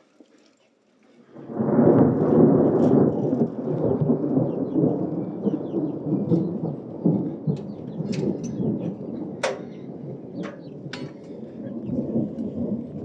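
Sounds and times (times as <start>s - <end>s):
thunder rumbling: 1.3s - 13.0s.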